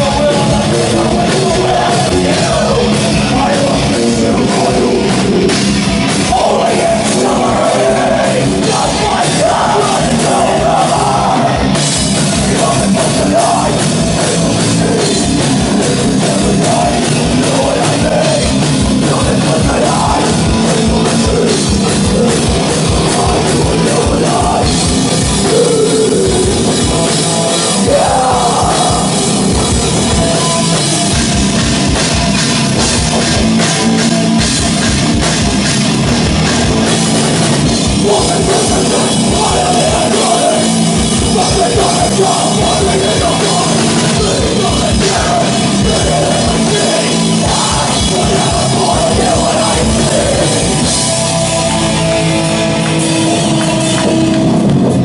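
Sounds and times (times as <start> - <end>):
distorted electric guitars: 0.0 - 55.0
metal band playing: 0.0 - 55.0
rapid bass drum: 0.0 - 55.0.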